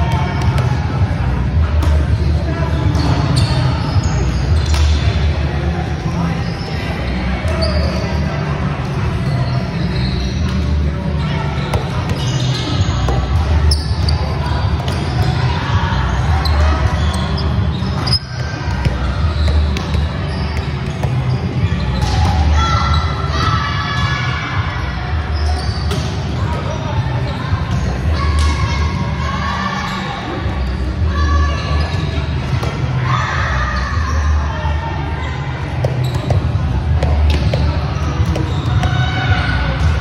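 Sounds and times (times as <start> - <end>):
faint voices: 0.0 - 40.0.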